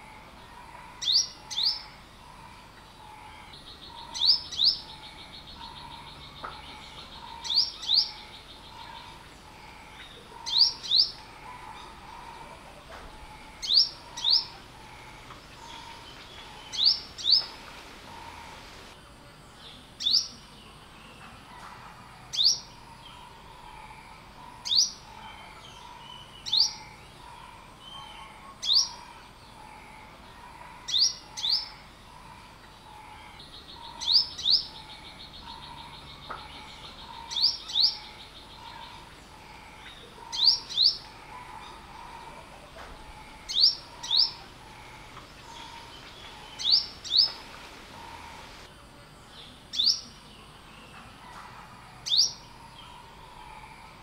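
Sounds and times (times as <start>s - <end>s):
sunbird chirping: 0.0s - 21.3s, 22.3s - 51.2s.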